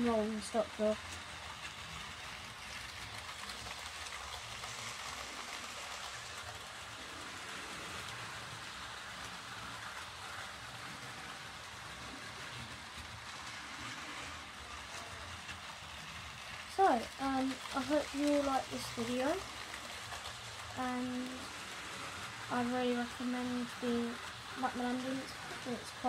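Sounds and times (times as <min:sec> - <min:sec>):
model locomotive motors: 0:00.0 - 0:26.0
model train wheels on rails: 0:00.0 - 0:26.0.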